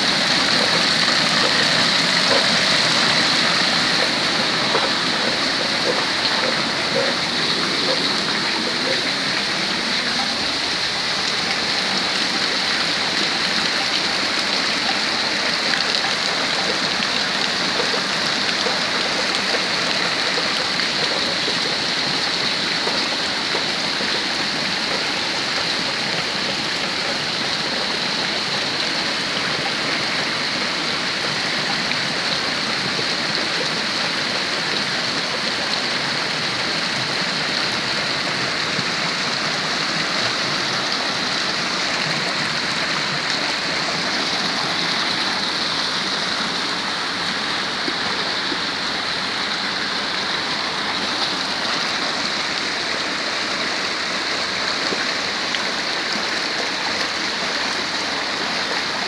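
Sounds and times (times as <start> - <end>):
heavy rain falling: 0.0 - 59.0
runoff water rushing: 0.0 - 59.0.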